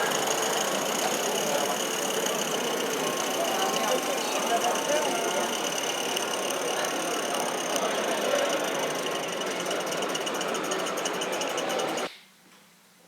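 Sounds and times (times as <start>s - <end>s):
fine ticking of gears: 0.0s - 12.1s
model tram mechanical whir: 0.0s - 12.1s.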